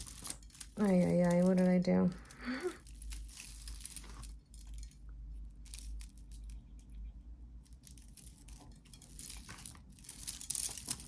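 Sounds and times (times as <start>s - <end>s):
beads clicking: 0.0s - 11.0s
low steady hum: 0.0s - 11.0s.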